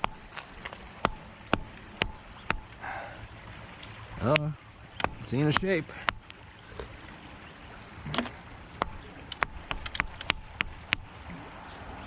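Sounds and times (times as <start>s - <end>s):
running stream water: 0.0s - 12.0s.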